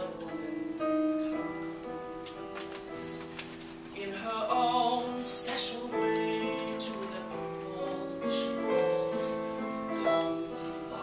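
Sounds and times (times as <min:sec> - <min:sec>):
man singing a ballad: 0:00.0 - 0:01.5, 0:03.0 - 0:11.0
slow piano accompaniment: 0:00.0 - 0:11.0.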